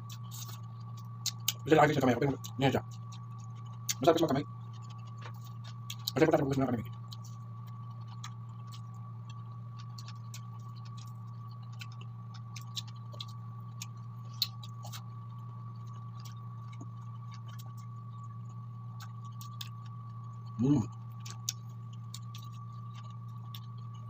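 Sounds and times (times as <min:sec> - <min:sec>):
chewing crunchy chicken: 0:00.0 - 0:24.0
steady low hum: 0:00.0 - 0:24.0.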